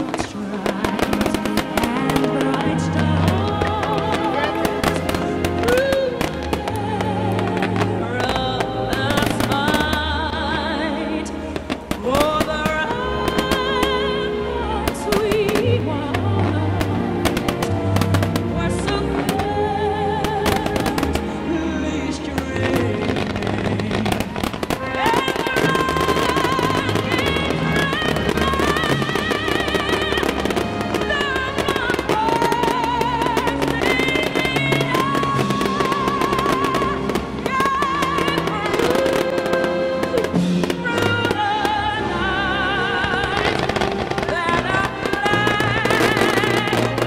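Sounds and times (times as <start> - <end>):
fireworks bursting and crackling: 0.0 - 47.0.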